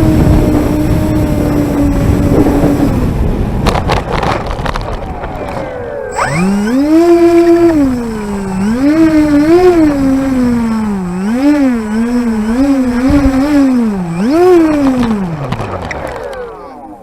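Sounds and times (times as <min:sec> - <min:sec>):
wind buffeting microphone: 0:00.0 - 0:16.1
model plane motor and propeller: 0:00.0 - 0:17.0.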